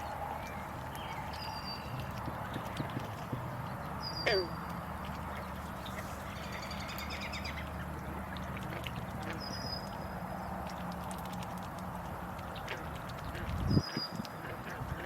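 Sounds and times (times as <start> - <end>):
faint clicks: 0.4 - 15.0.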